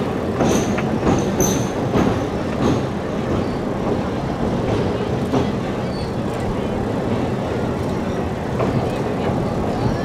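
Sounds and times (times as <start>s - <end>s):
train knocks: 0.0s - 10.0s
train wheels rumbling on rails: 0.0s - 10.0s.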